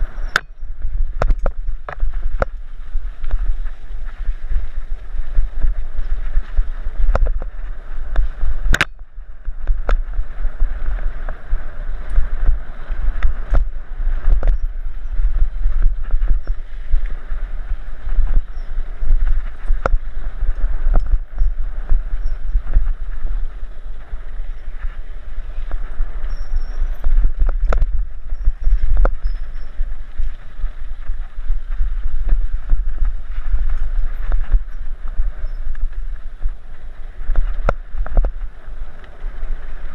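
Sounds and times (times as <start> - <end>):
bike rattling over bumps: 0.0 - 39.9
tyres on loose dirt: 0.0 - 39.9
wind on microphone: 0.0 - 39.9.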